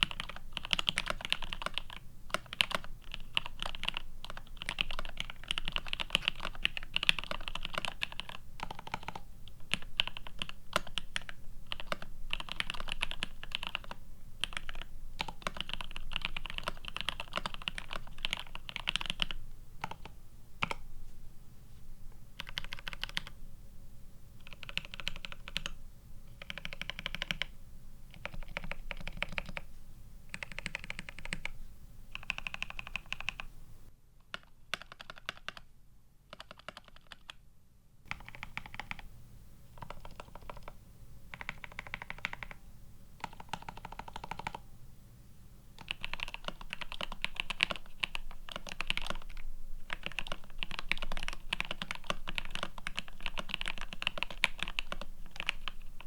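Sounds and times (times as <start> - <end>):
mechanical keyboard typing: 0.0 - 20.8, 22.4 - 23.4, 24.4 - 25.8, 26.4 - 27.5, 28.1 - 29.6, 30.3 - 33.5, 34.3 - 35.6, 36.3 - 37.4, 38.1 - 39.1, 39.8 - 42.6, 43.2 - 44.6, 45.8 - 56.0.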